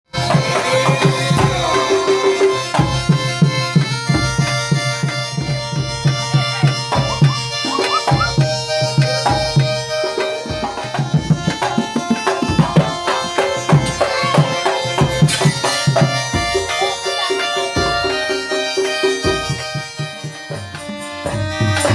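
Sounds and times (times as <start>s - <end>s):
held melodic tones: 0.1s - 21.9s
rapid hand-drum strokes: 0.2s - 21.9s.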